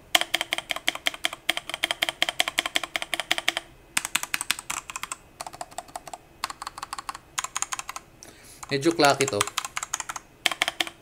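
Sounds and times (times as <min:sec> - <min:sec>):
fast typing on mechanical keyboard: 0:00.1 - 0:08.0, 0:08.6 - 0:11.0.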